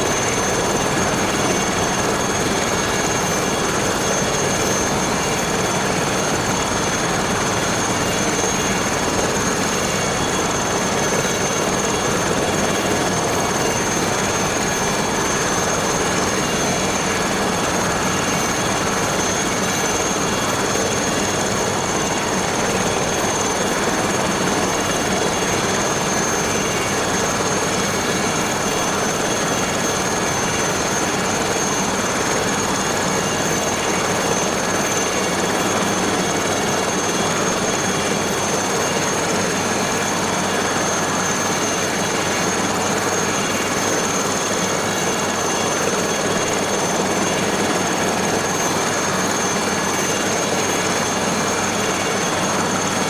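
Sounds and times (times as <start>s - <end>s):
helicopter turbine and rotor running: 0.0s - 53.0s.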